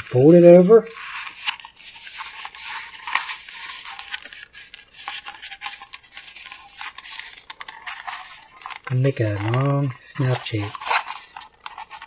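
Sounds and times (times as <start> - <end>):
paper plate crinkling: 0.0 - 12.0.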